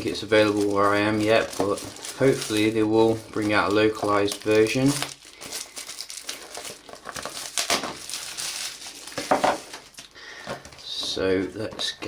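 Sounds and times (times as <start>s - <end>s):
packaging crinkling: 0.0s - 10.8s.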